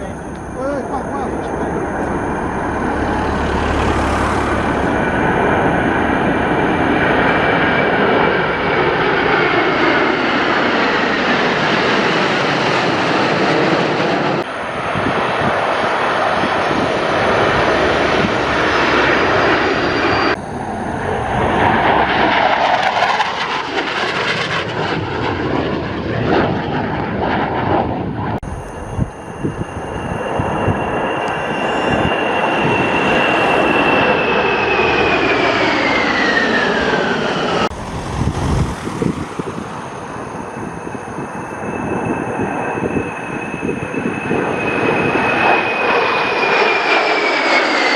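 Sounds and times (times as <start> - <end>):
jet aircraft engine roar: 0.0 - 47.9.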